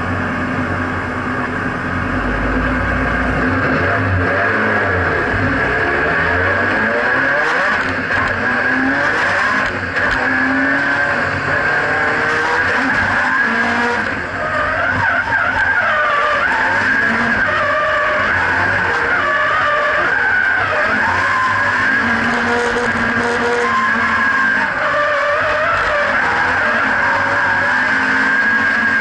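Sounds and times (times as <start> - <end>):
car engine running hard: 0.0 - 29.0.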